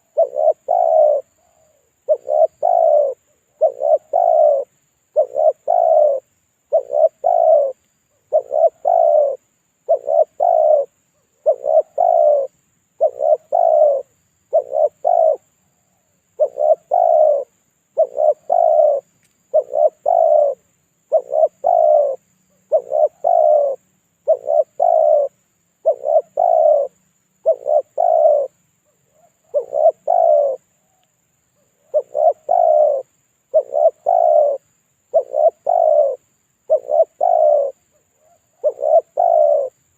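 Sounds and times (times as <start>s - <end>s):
dove cooing: 0.0s - 31.0s, 31.6s - 39.9s.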